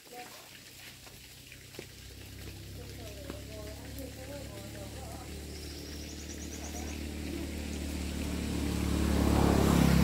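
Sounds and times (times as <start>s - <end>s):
vehicle engine approaching: 1.5s - 10.0s.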